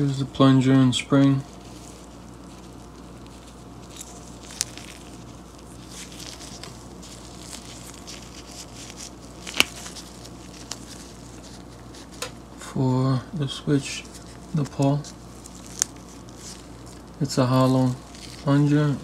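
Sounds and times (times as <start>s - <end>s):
faint steady hum: 0.0s - 19.0s
gloves rustling and crinkling: 0.0s - 19.0s.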